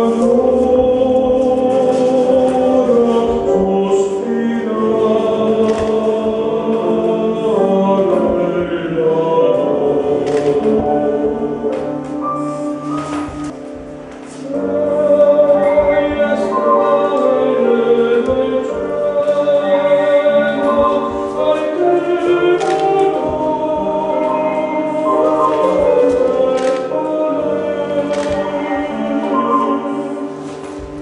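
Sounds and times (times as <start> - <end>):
choir singing long notes: 0.0 - 13.6, 14.3 - 31.0.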